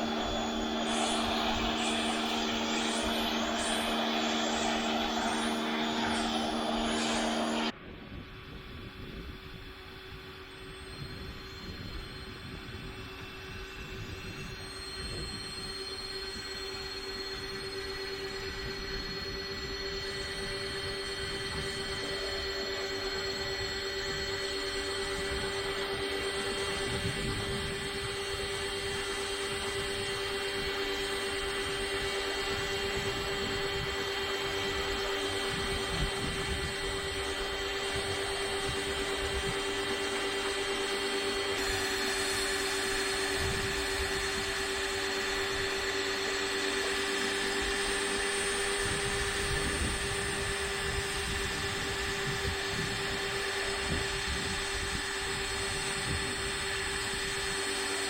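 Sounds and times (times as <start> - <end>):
pressure washer motor hum: 0.0 - 7.7, 15.8 - 58.0.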